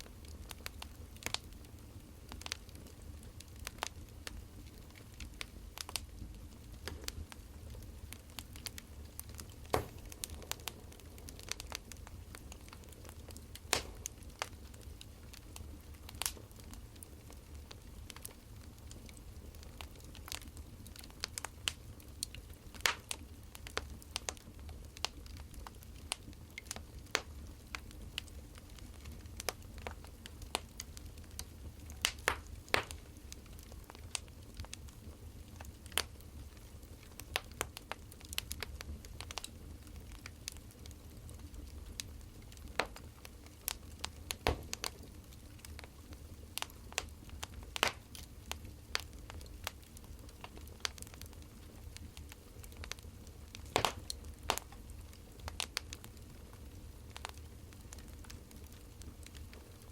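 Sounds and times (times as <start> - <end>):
firewood crackling and popping: 0.0 - 59.9
low steady hum: 0.0 - 59.9.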